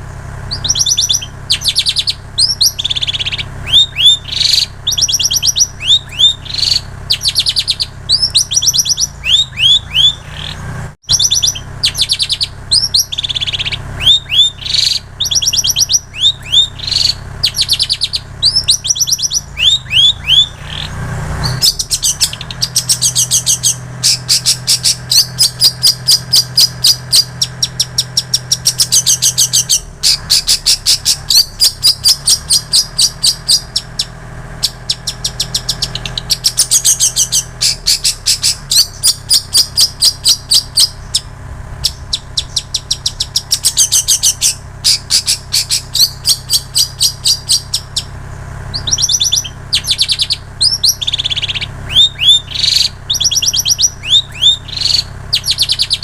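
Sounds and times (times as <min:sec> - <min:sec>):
bird singing sharp high notes: 0:00.0 - 0:56.0.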